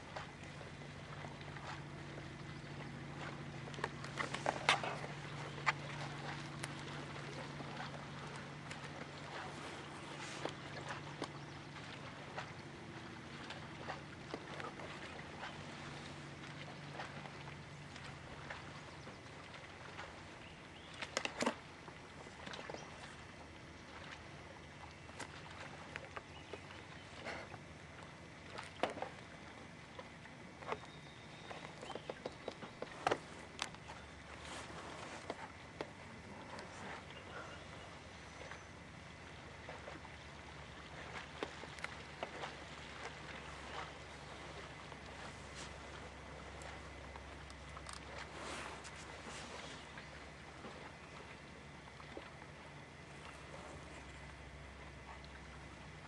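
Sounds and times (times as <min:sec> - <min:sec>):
boat motor idling: 0:00.0 - 0:56.0.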